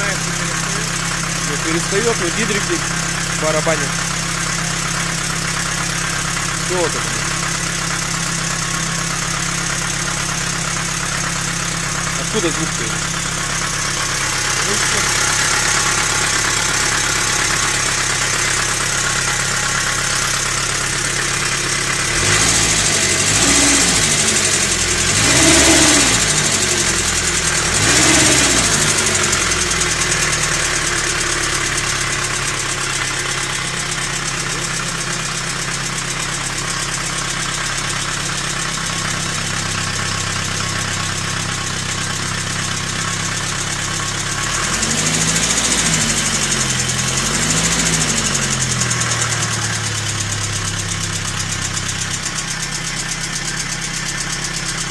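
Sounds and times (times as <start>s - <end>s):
petrol engine idling and revving: 0.0s - 54.9s.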